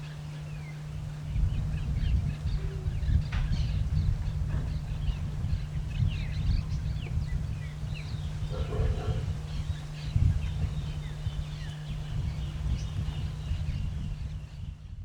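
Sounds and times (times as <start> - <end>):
low bird call: 0.0 - 14.8
birds chirping and whistling: 0.0 - 15.0
steady low rumble: 0.0 - 15.0.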